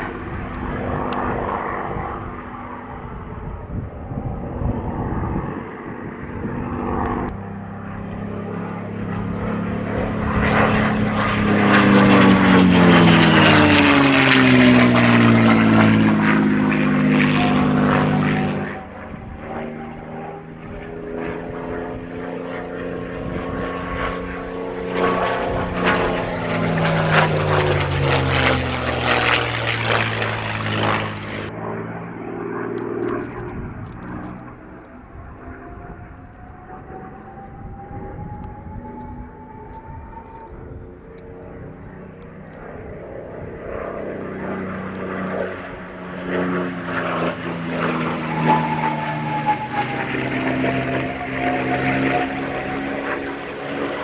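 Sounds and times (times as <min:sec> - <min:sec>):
propeller aircraft flying past: 0:00.0 - 0:54.0.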